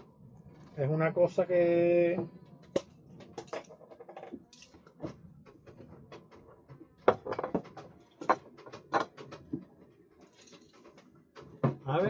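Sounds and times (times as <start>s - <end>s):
objects being handled knocking: 2.2s - 12.0s.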